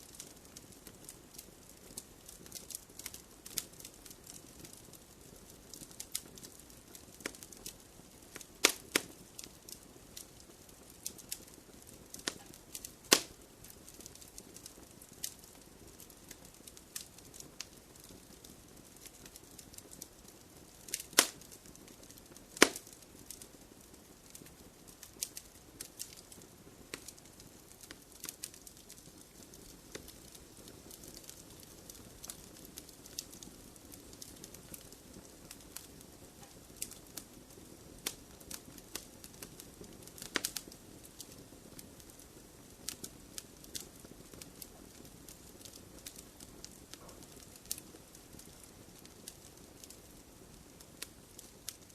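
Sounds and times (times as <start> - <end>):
soft fire hiss: 0.0 - 51.9
wood fire crackling and popping: 0.0 - 51.9.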